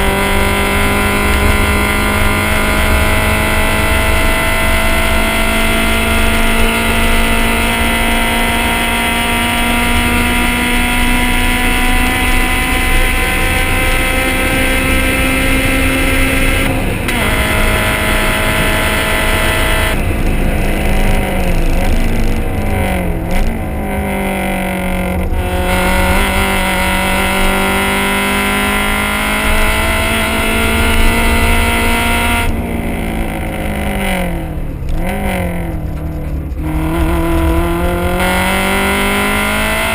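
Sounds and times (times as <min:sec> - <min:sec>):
car engine accelerating hard: 0:00.0 - 0:39.9
throttle blips on downshifts: 0:00.0 - 0:39.9.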